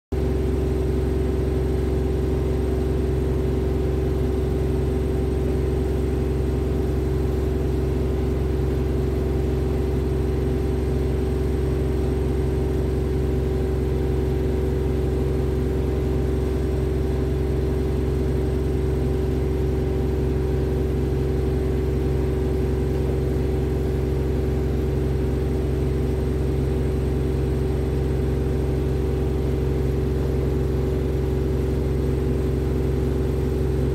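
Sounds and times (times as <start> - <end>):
low machine hum: 0.2 - 33.9.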